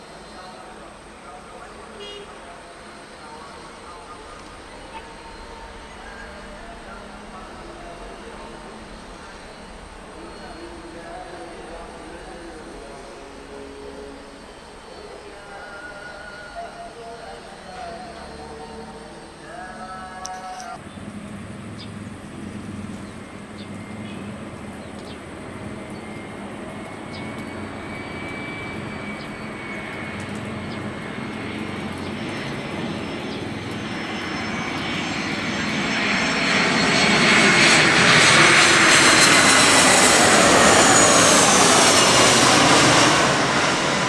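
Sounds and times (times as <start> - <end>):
high jet engine whine: 0.0 - 44.0
jet airliner flying overhead: 0.0 - 44.0.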